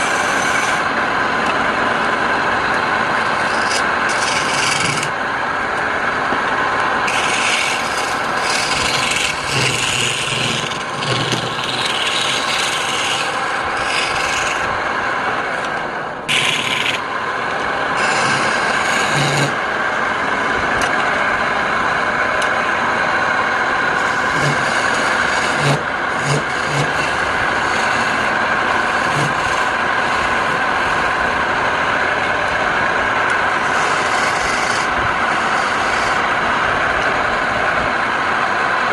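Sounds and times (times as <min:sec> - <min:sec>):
tool scraping spinning wood: 0:00.0 - 0:38.1
wood lathe humming: 0:00.0 - 0:38.9.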